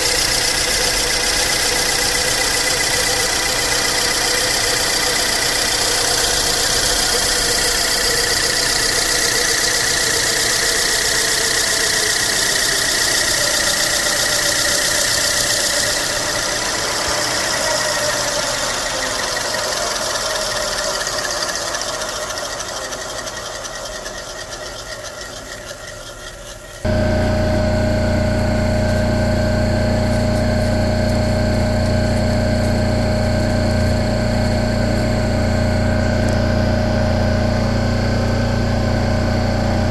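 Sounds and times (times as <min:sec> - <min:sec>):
lathe motor running: 0:00.0 - 0:39.9
lathe shaving foam: 0:00.0 - 0:39.9
steady machine hum: 0:00.0 - 0:39.9.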